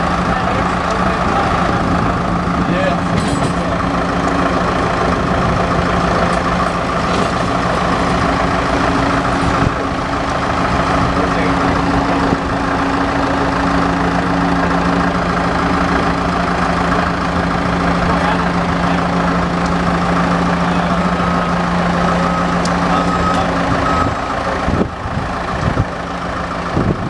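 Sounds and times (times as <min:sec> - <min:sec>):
heavy engine idling: 0:00.0 - 0:27.0.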